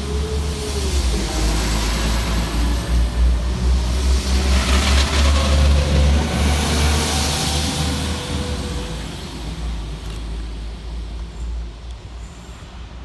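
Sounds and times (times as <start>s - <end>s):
diesel train accelerating: 0.0s - 13.0s.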